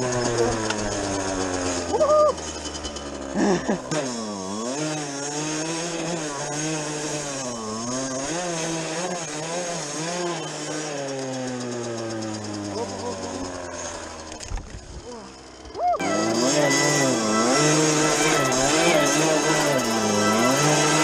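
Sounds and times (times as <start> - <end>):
loud jumble of sound: 0.0 - 8.9, 9.8 - 21.0
dirt bike engine revving: 0.0 - 21.0.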